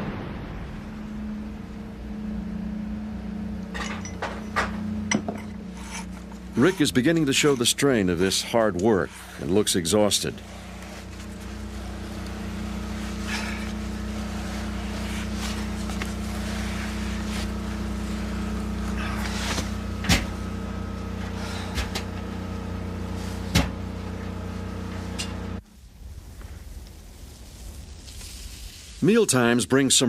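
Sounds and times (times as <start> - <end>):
engine running steadily: 0.0 - 25.6.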